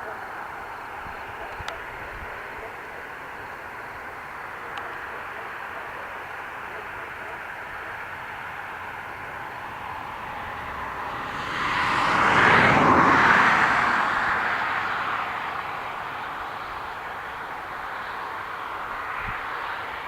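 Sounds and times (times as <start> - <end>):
jet aircraft passing by: 0.0 - 20.0.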